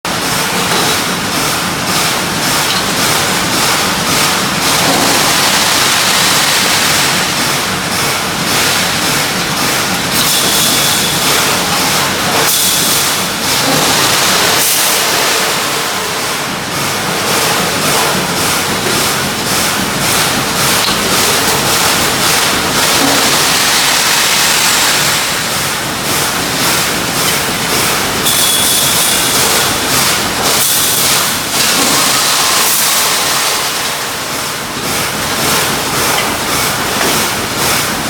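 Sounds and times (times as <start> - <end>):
welding machine rushing noise: 0.1 - 38.0.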